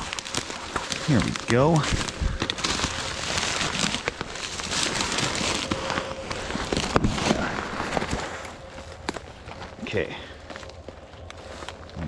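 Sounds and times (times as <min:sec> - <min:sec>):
brush scraping and rustling: 0:00.0 - 0:12.0
twigs snapping underfoot: 0:00.0 - 0:12.0.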